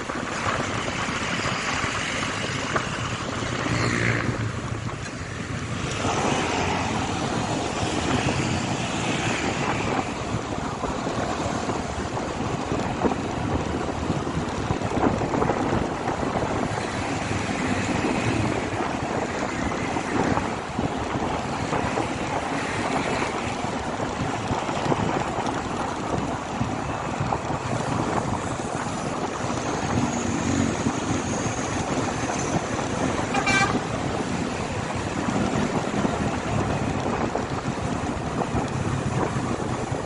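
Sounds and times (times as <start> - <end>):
road noise: 0.0 - 40.0
wind rushing over microphone: 0.0 - 40.0.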